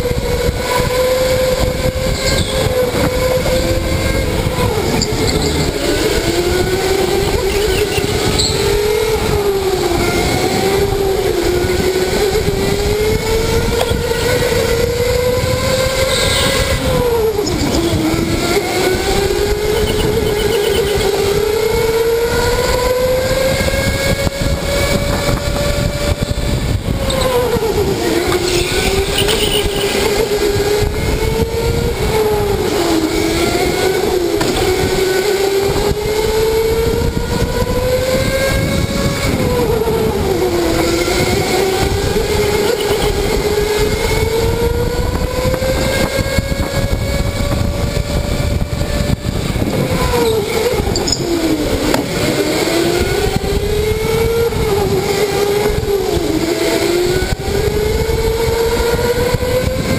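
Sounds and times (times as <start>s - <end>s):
electric motor whining: 0.0s - 59.9s
tyre and motor rush: 0.0s - 59.9s.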